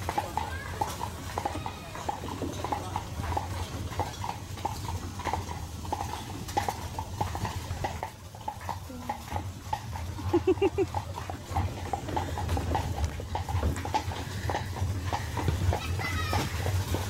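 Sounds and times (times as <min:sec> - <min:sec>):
horse hooves clip-clopping on dirt: 0:00.0 - 0:17.0.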